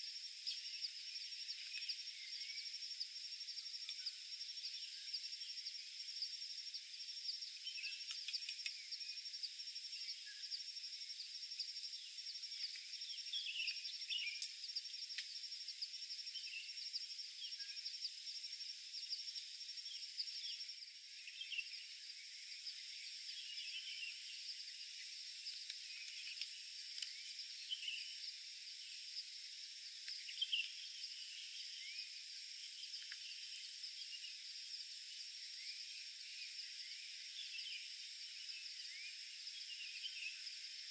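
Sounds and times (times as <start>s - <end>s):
shrill insect chorus trilling: 0.0s - 40.9s.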